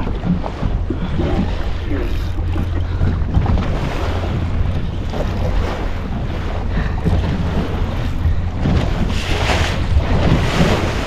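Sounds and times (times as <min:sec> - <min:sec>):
waves washing against hull: 0:00.0 - 0:11.0
wind buffeting microphone: 0:00.0 - 0:11.0.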